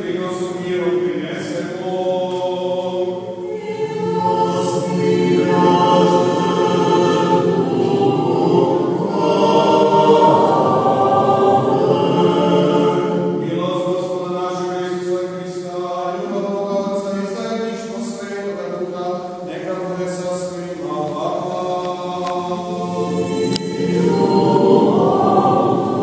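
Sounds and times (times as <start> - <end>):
choir and congregation chanting: 0.0 - 26.0.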